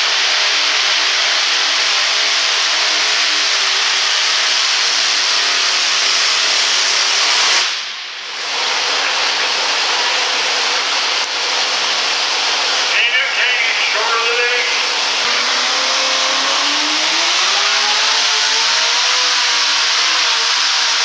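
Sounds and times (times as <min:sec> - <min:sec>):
supercharged engine at full throttle: 0:00.0 - 0:13.2, 0:14.1 - 0:21.0.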